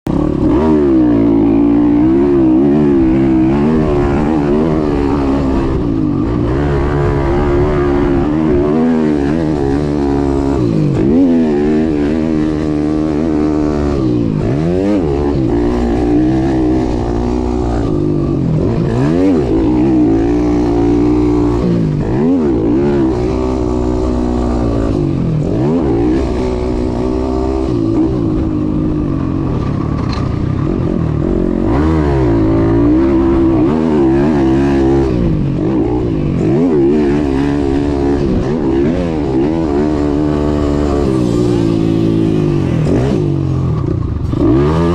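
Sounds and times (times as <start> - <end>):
pit bike engine revving: 0.1 - 44.9.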